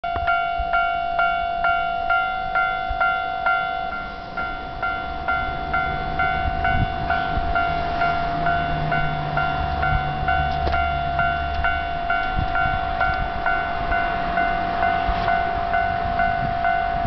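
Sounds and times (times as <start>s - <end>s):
electronic crossing bell: 0.0s - 17.0s
steady tone: 0.1s - 17.0s.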